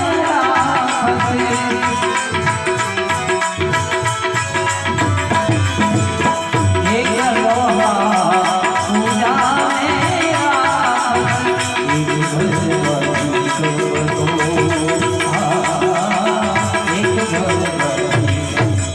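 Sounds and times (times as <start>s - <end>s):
hand drum: 0.0s - 18.9s
rattle percussion: 0.0s - 18.9s.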